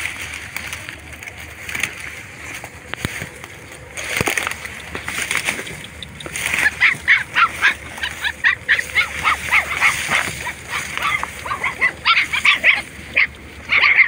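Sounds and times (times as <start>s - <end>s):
dry grass rustling: 0.0s - 14.0s
puppies yelping: 0.0s - 14.0s.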